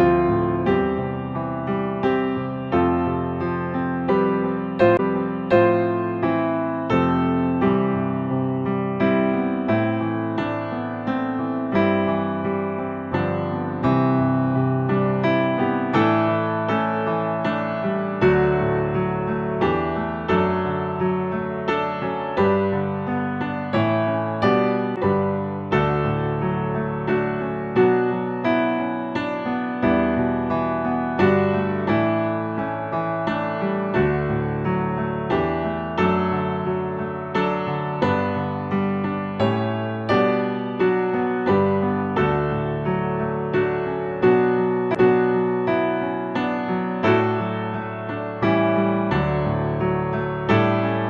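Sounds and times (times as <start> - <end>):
slow piano-like chords: 0.0 - 51.0.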